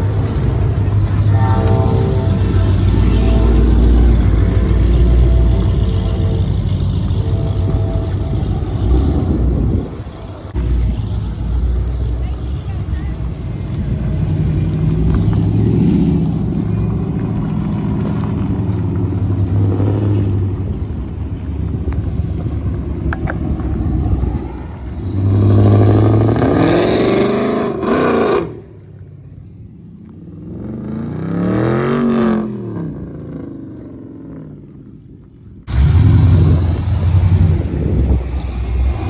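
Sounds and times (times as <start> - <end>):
car engine revving: 0.0 - 28.8, 35.7 - 39.0
car engines rumbling: 0.0 - 39.0.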